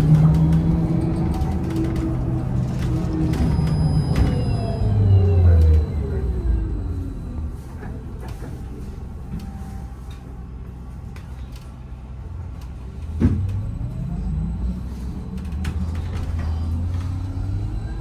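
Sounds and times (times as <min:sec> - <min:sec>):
trolleybus cabin rumble: 0:00.0 - 0:18.0.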